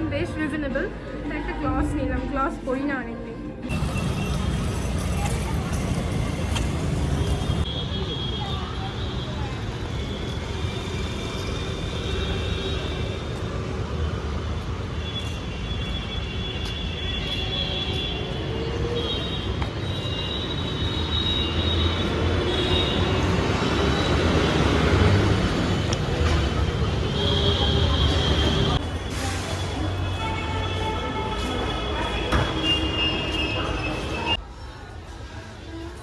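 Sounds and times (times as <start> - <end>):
traffic rumble: 3.6 - 36.0.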